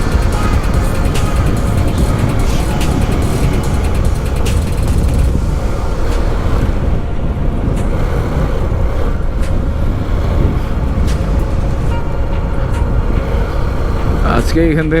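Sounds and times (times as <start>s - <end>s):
motorcycle engine running: 0.0s - 15.0s
wind rumbling on microphone: 0.0s - 15.0s.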